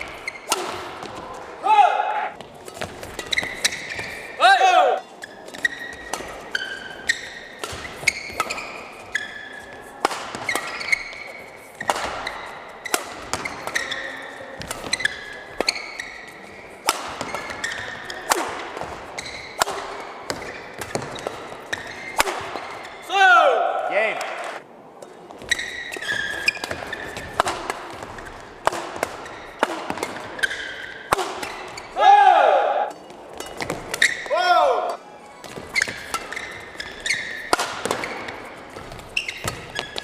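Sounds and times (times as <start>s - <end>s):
rackets hitting shuttlecock: 0.0s - 1.5s, 2.2s - 23.1s, 24.3s - 40.0s
shoes squeaking on court: 0.0s - 1.5s, 2.4s - 4.4s, 5.0s - 23.1s, 24.4s - 32.0s, 32.9s - 40.0s.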